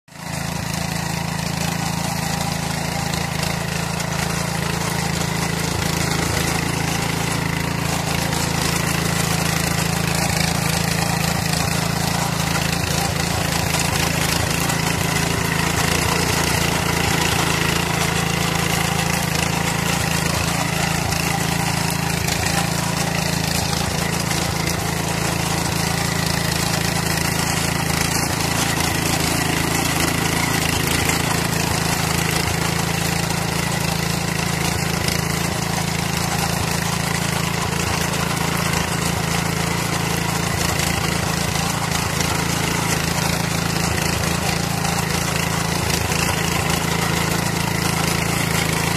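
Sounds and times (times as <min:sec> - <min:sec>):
petrol engine running: 0:00.1 - 0:48.9.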